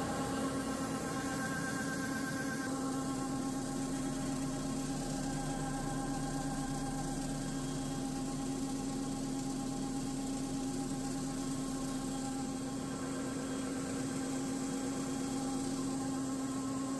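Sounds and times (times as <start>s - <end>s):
machinery humming and hissing: 0.0s - 16.9s.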